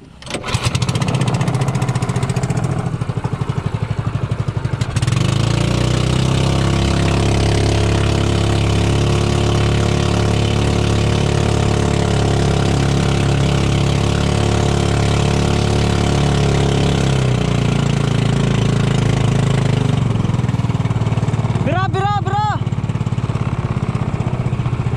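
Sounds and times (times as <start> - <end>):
small boat engine running: 0.0 - 24.9.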